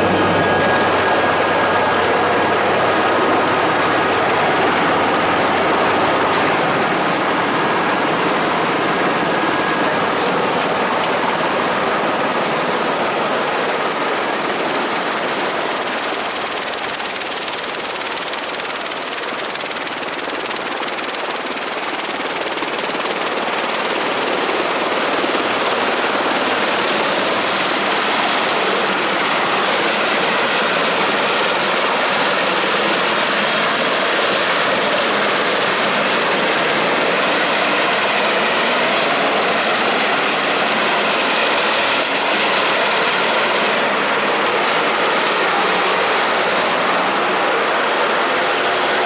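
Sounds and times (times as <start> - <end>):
helicopter running: 0.0 - 49.0.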